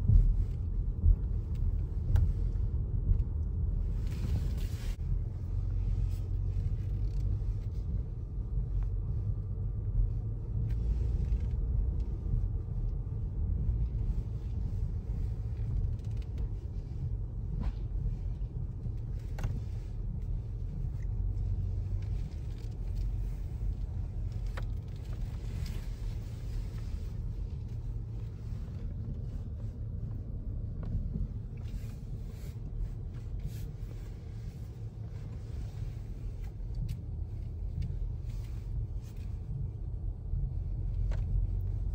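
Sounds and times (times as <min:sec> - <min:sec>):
car driving rumble: 0:00.0 - 0:41.9.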